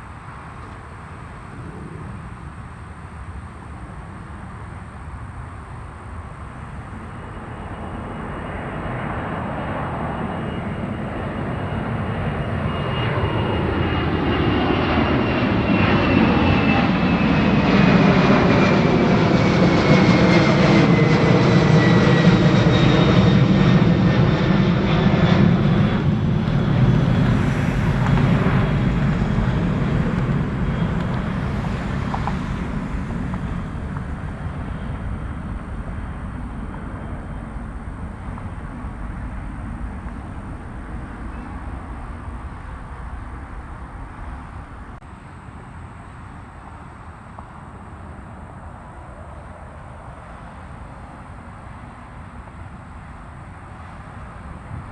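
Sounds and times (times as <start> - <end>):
high engine whine: 0.0 - 54.9
jet airliner passing: 0.0 - 54.9.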